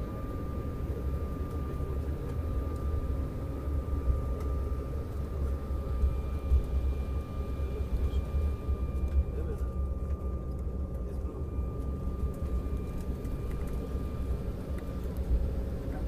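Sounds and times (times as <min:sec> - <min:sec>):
jet engine cabin rumble: 0:00.0 - 0:16.0
thin steady whine: 0:00.0 - 0:16.0.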